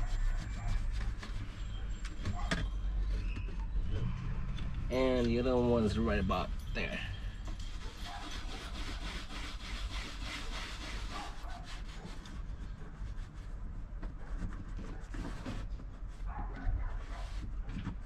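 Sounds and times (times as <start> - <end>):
cloth rubbing on dashboard: 0.0 - 4.3, 7.5 - 18.0.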